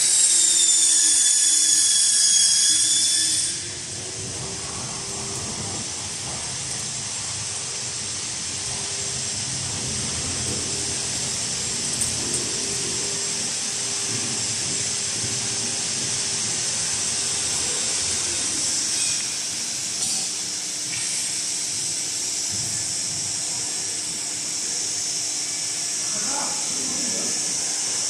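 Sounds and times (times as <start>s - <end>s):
mixer hissing: 0.0s - 28.0s.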